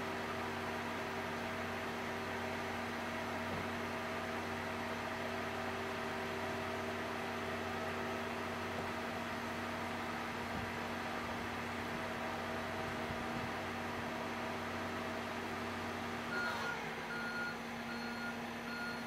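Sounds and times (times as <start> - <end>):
street sweeper truck idling: 0.0 - 19.0.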